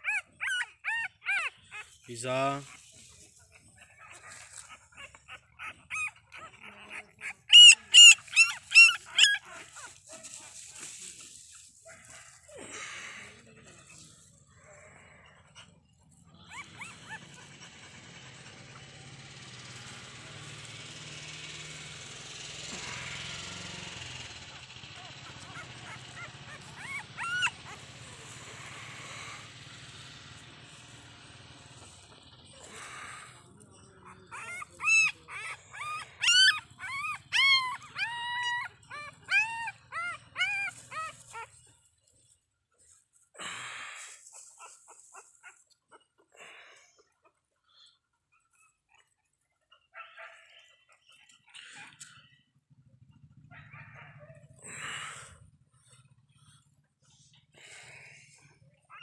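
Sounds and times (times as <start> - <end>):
puppies squealing: 0.0 - 42.4, 43.4 - 52.6, 53.2 - 59.0.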